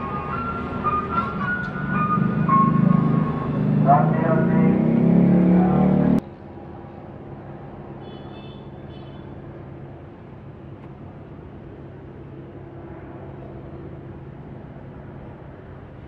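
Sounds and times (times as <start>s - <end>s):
airplane engine and propeller droning: 0.0s - 8.1s, 9.3s - 16.0s.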